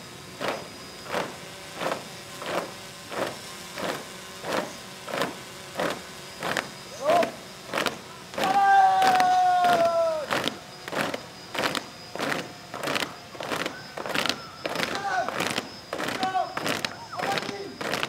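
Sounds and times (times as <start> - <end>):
boots marching on pavement: 0.4 - 18.0.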